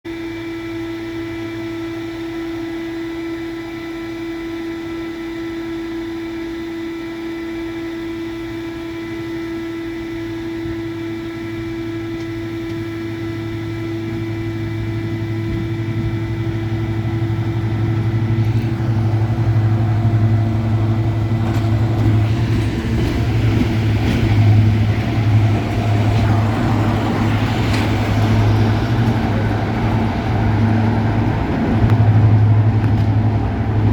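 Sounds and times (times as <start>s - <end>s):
diesel locomotive engines whining: 0.1s - 33.9s.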